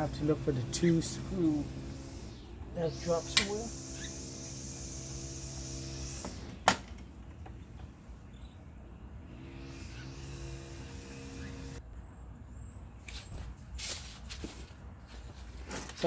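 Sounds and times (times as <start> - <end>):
mechanical hum: 0.0 - 13.6.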